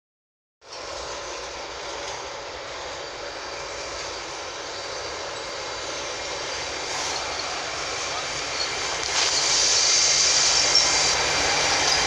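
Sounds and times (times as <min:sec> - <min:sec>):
electric locomotive rushing drone: 0:00.6 - 0:12.0.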